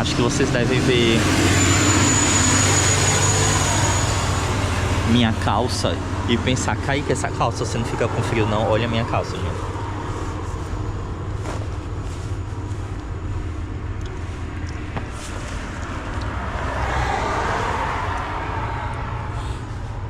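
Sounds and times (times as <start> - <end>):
vehicle passing: 0.0 - 12.2, 13.8 - 20.0
road traffic rumble: 0.0 - 20.0.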